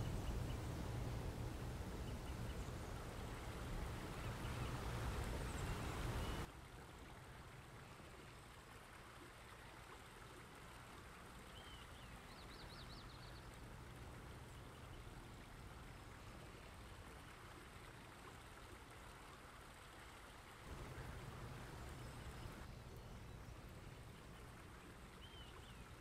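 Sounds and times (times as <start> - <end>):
faint hiss: 0.0 - 26.0.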